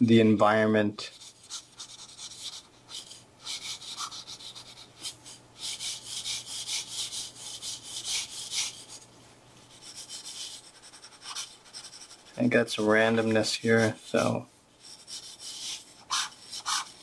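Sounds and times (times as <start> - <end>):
marker scratching on paper: 1.1 - 17.0.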